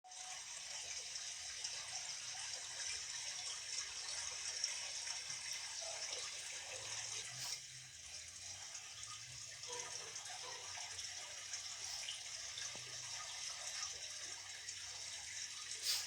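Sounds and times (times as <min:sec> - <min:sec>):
running water hiss: 0:00.6 - 0:16.0.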